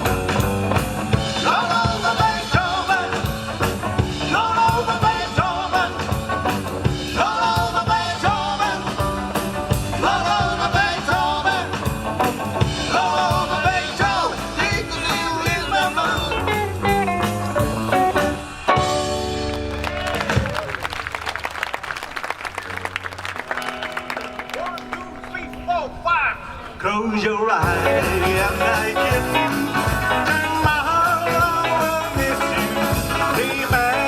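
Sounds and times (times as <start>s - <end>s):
rock and roll band playing: 0.0s - 21.2s, 22.6s - 34.0s.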